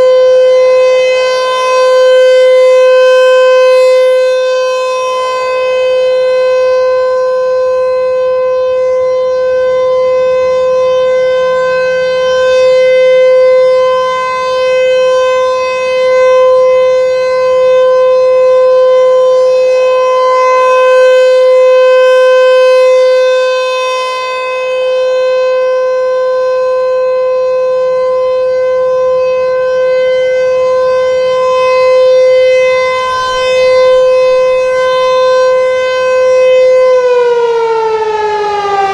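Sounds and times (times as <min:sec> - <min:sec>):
warning siren tone: 0:00.0 - 0:38.9.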